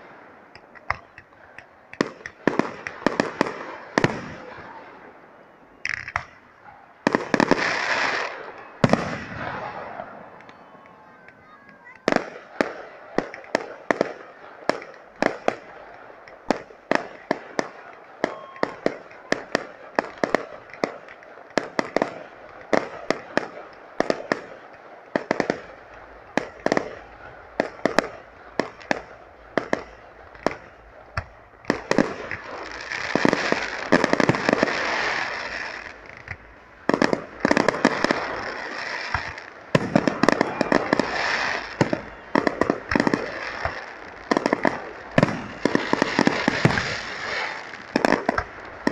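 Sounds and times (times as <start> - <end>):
fireworks bangs: 0.0 - 48.9
fireworks crackling: 0.0 - 48.9.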